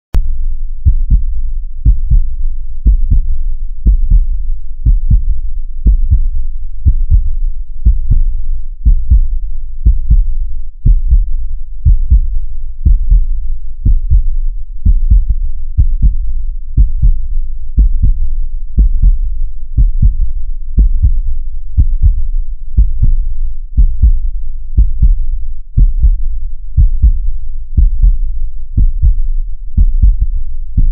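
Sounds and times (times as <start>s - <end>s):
heartbeat thumps: 0.8s - 21.2s, 21.8s - 30.9s.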